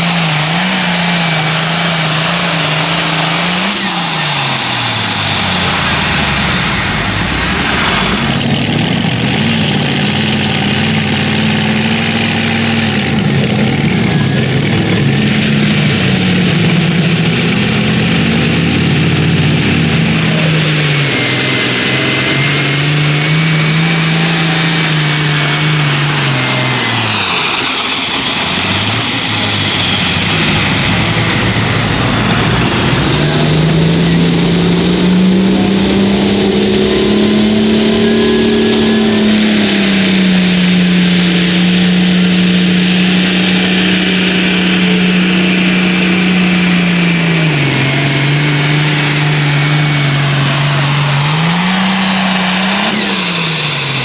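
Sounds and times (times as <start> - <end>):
high turbo whistle: 0.0 - 8.6, 9.4 - 54.0
tractor diesel engine under load: 0.0 - 54.0.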